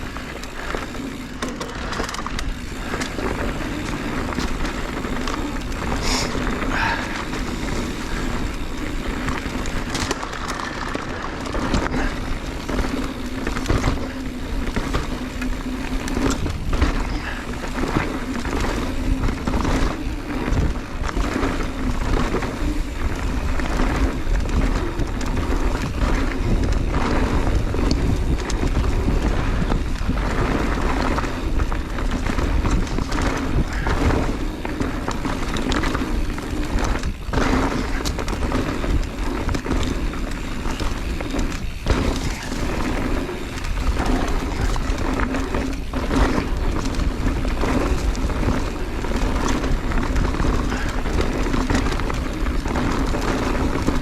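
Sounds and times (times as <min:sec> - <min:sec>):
bike knocks and rattles: 0:00.0 - 0:54.0
tyres rolling over dirt and rock: 0:00.0 - 0:54.0
wind rush on camera mic: 0:00.0 - 0:54.0.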